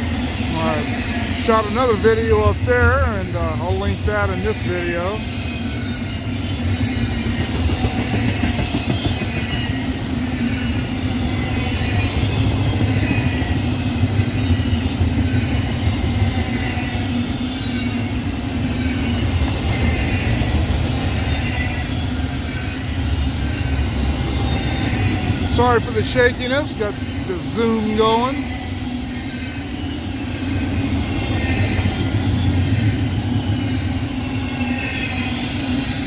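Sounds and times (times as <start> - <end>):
train wheels clattering on rails: 0.0 - 36.0
faint high wheel squeal: 0.2 - 36.0.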